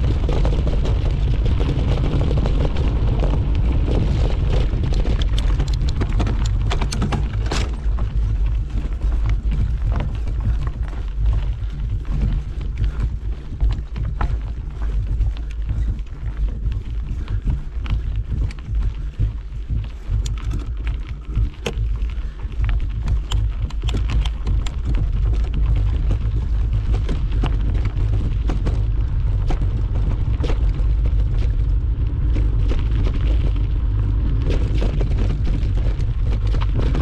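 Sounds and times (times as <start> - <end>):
bike rattling: 0.0 - 37.0
wind buffeting microphone: 0.0 - 37.0.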